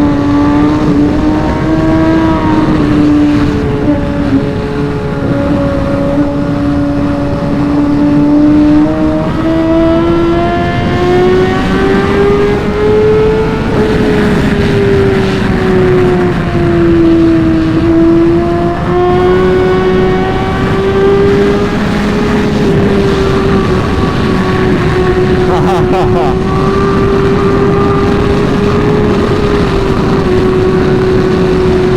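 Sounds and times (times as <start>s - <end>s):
motorcycle engine at high revs: 0.0s - 31.9s
road noise: 0.0s - 31.9s
wind rush: 0.0s - 31.9s.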